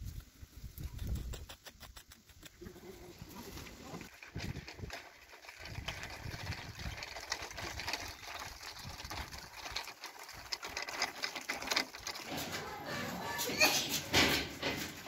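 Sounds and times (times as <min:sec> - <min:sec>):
wheels rolling on gravel: 0:02.6 - 0:15.0.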